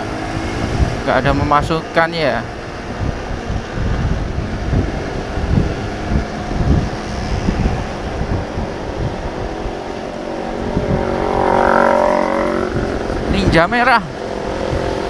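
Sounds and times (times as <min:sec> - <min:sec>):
wind buffeting microphone: 0:00.0 - 0:15.0
motorcycle engine running: 0:02.6 - 0:15.0.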